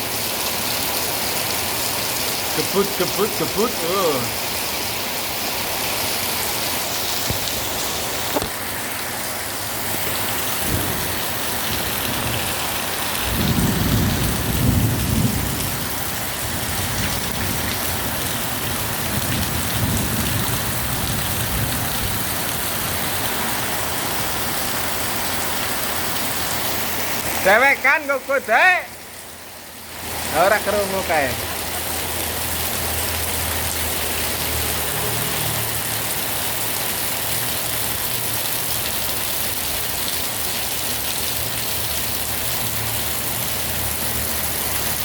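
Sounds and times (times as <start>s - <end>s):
heavy rain pouring: 0.0s - 45.0s.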